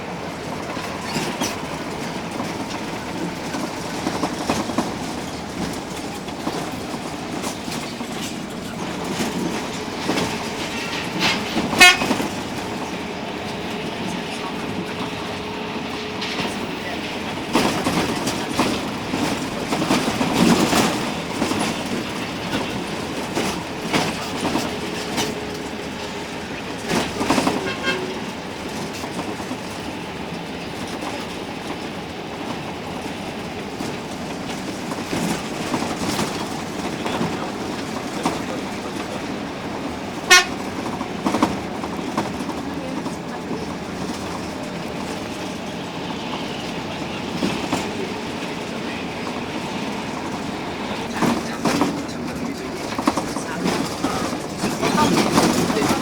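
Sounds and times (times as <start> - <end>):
bus cabin rumble: 0.0 - 56.0.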